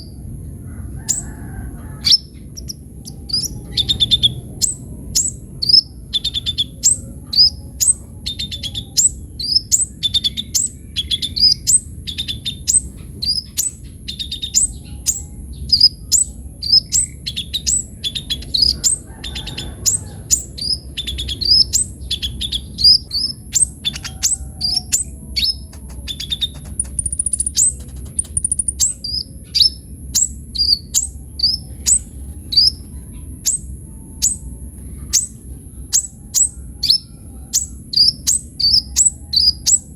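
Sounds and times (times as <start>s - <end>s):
bird high sharp chirps: 2.0s - 39.9s.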